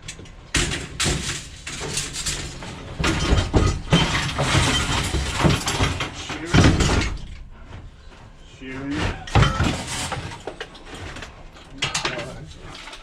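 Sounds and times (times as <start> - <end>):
scrap metal clanging onto pile: 0.6 - 7.4, 8.9 - 13.0.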